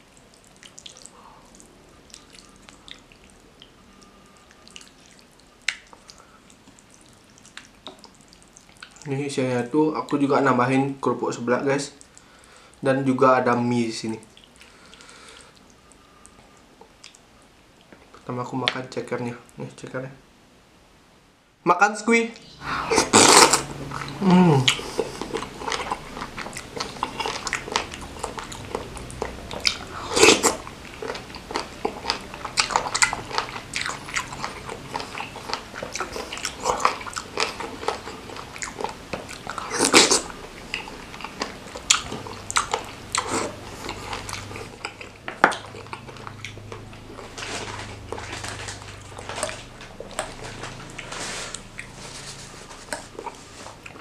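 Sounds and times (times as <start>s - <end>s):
person chewing food: 0.0s - 9.1s, 14.3s - 18.2s, 22.8s - 54.0s.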